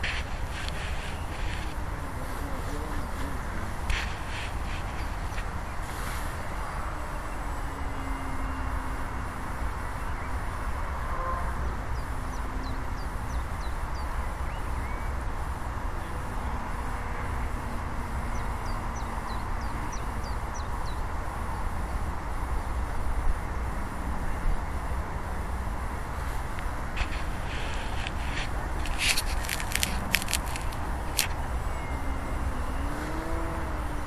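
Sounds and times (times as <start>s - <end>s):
outdoor rumble and hiss: 0.0s - 34.0s.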